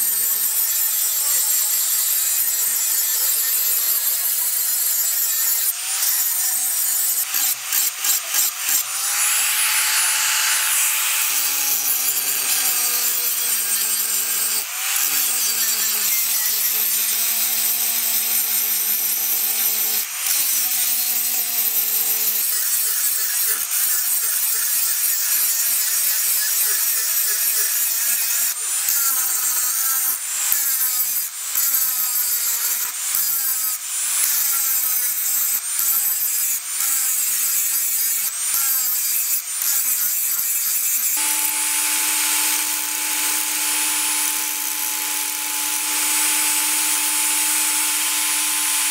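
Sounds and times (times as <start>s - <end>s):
angle grinder grinding steel: 0.0s - 48.9s.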